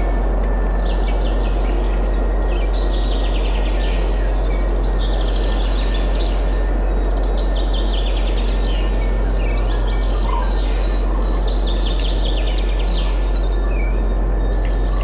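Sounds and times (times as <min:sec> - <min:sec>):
wind with deep rumble: 0:00.0 - 0:15.0.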